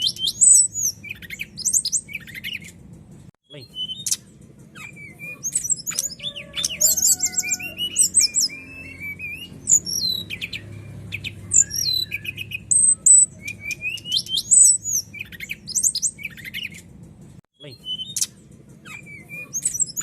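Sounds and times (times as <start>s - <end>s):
songbird singing: 0.0s - 2.8s, 3.5s - 17.0s, 17.6s - 20.0s.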